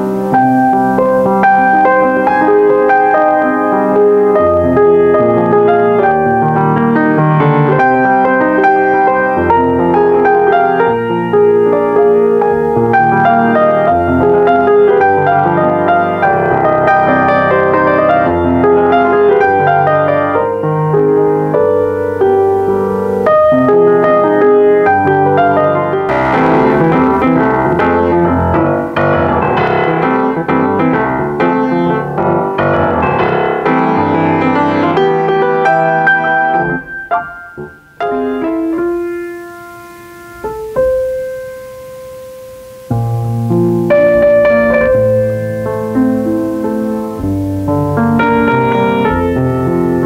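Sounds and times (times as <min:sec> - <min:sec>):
grand piano playing: 0:00.0 - 0:50.0.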